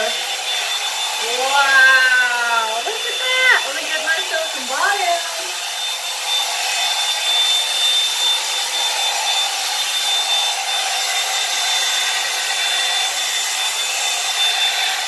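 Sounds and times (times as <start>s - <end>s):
hair dryer blowing air: 0.0s - 15.0s
high motor whine: 0.0s - 15.0s.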